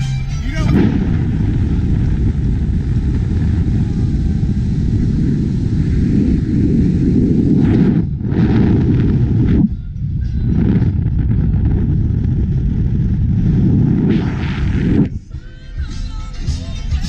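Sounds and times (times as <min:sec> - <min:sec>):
wind rush on microphone: 0:00.0 - 0:15.4
road rumble: 0:00.0 - 0:17.0.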